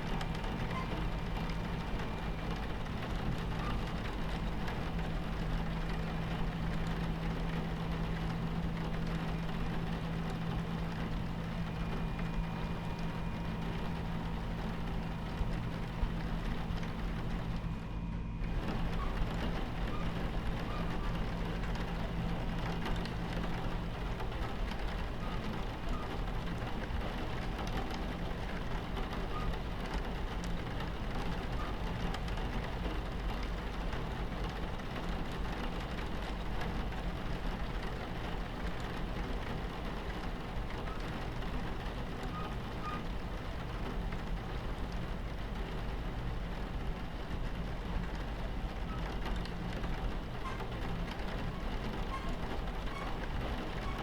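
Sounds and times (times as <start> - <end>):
moving train rumble: 0.0 - 54.0
rain against train window: 0.0 - 54.0.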